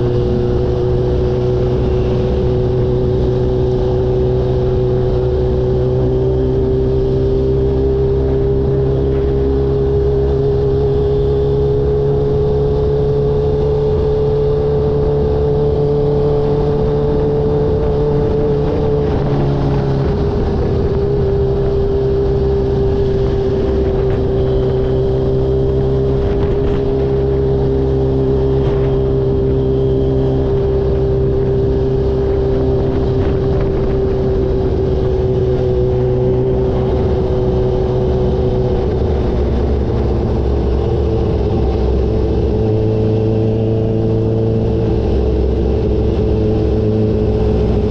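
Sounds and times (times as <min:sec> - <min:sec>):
motorcycle engine cruising: 0:00.0 - 0:47.9.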